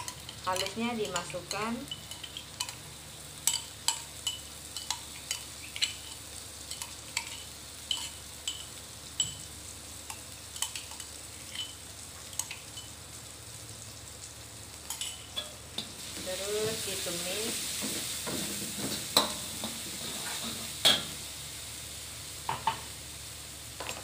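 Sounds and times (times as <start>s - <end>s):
onions frying in oil: 0.0s - 24.0s.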